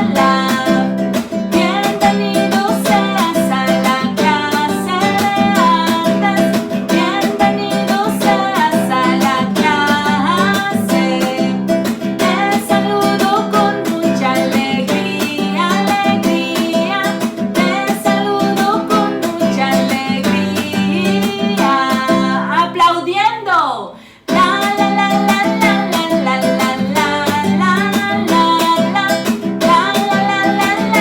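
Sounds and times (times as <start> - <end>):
person singing: 0.0 - 31.0.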